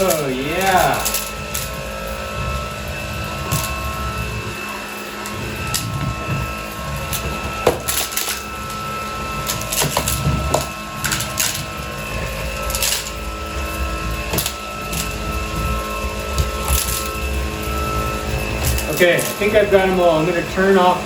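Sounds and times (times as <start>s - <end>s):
pebbles rattling in vacuum: 0.0s - 21.0s
stick vacuum motor whine: 0.0s - 21.0s.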